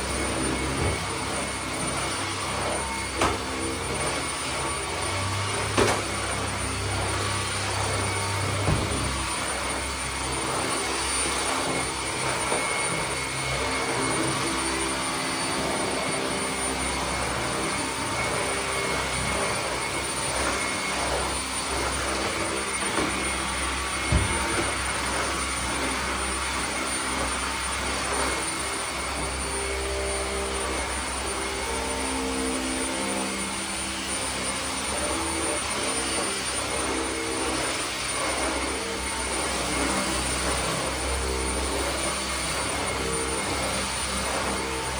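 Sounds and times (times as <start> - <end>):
high whine: 0.0 - 44.9
machine whirring: 0.0 - 44.9.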